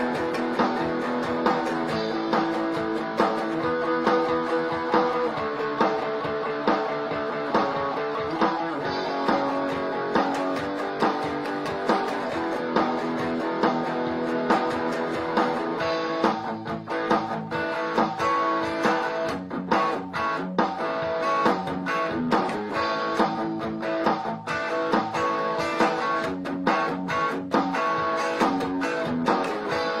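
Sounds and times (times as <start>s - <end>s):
electric guitar melody: 0.0s - 30.0s.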